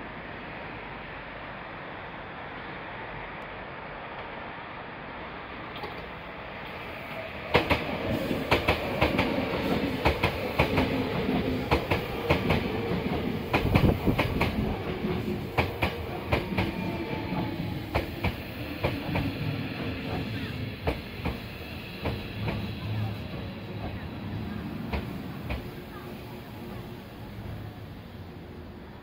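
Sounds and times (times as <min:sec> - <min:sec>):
train running rumble: 0:05.4 - 0:29.0.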